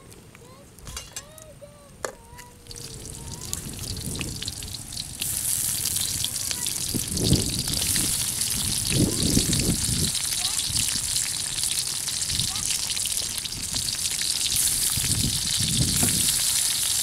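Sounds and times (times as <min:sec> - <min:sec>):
food sizzling in a wok: 0:02.7 - 0:17.0.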